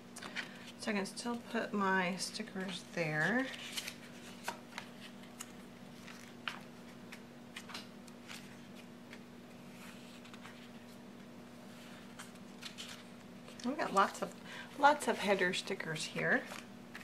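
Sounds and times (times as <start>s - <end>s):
paper pages rustling: 2.3s - 17.0s.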